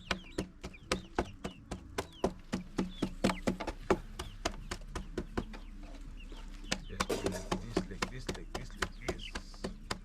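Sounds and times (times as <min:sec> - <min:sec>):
chicks cheeping: 0:00.0 - 0:10.0
pounding dried peppers: 0:00.0 - 0:10.0.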